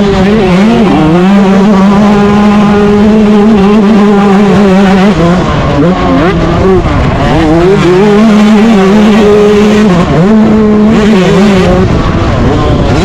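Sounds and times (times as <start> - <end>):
motocross engine revving: 0.0 - 13.0.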